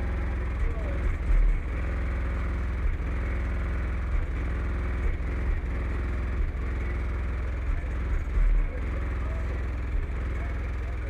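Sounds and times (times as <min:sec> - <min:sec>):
distorted bass drone: 0:00.0 - 0:11.0.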